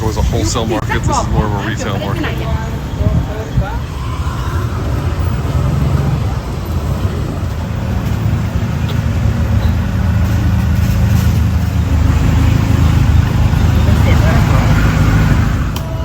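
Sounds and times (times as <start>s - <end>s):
street noise: 0.0s - 16.0s
vehicle engine rumbling: 0.0s - 16.0s.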